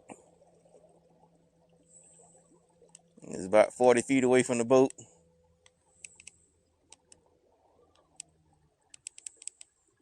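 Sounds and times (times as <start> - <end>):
faint sharp clicks and ticks: 0.0 - 3.4, 4.8 - 10.0
faint low hum: 0.0 - 10.0.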